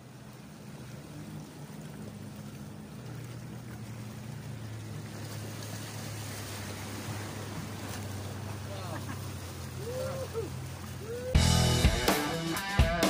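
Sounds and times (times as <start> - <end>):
waves splashing against rocks: 0.0 - 11.4
distant motorboat engine hum: 0.0 - 13.0.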